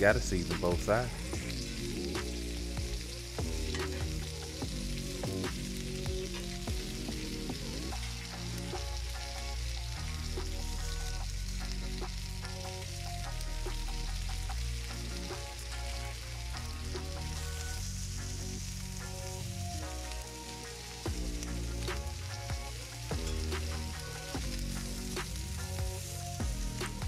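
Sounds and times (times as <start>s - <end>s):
background music with bassline: 0.0s - 27.0s
chicken sizzling on a griddle: 0.0s - 27.0s.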